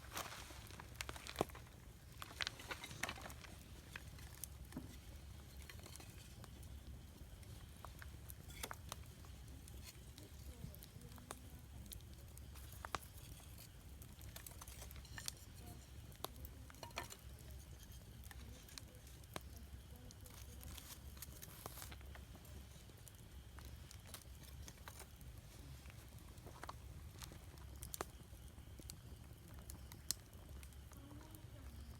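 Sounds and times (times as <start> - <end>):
campfire crackling and snapping: 0.0 - 31.9.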